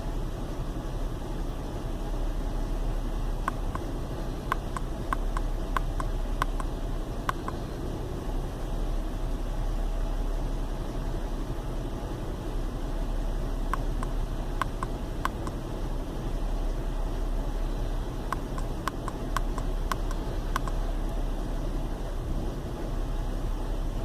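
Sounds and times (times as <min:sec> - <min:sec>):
car engine idling rough: 0:00.0 - 0:24.0.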